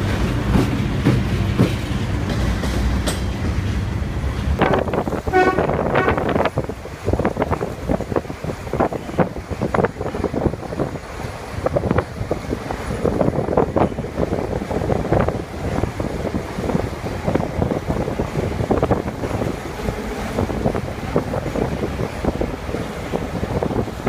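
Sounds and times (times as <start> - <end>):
passing train rumble: 0.0 - 24.0
wind buffeting microphone: 0.0 - 24.0.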